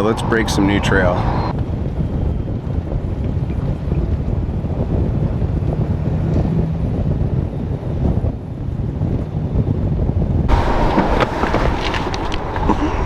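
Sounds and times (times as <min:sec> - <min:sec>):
wind buffeting microphone: 0:00.0 - 0:09.6, 0:10.5 - 0:13.0.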